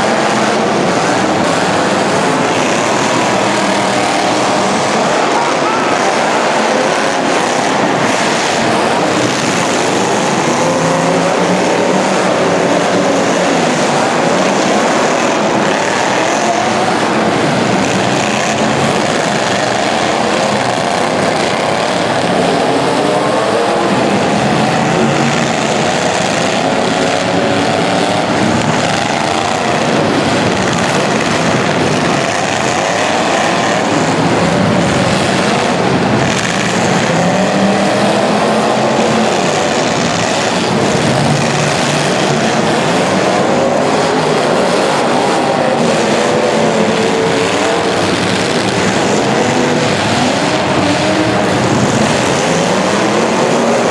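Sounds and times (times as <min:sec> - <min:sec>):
racing engines revving: 0:00.0 - 0:53.9.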